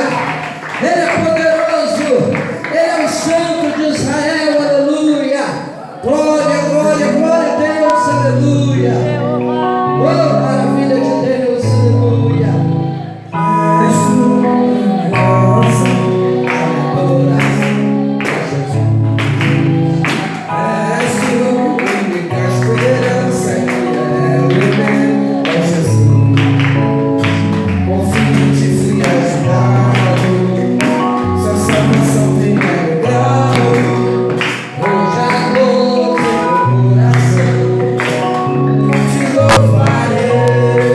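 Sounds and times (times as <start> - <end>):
gospel singing: 0.0 - 40.9
bass and keyboard chords: 6.1 - 40.9.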